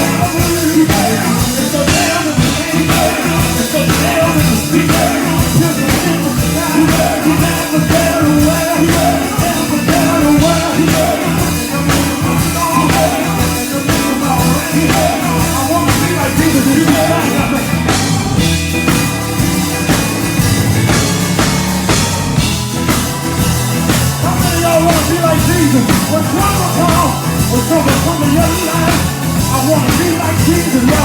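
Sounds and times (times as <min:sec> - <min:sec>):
drum kit beat: 0:00.0 - 0:31.0
gospel band playing: 0:00.0 - 0:31.0.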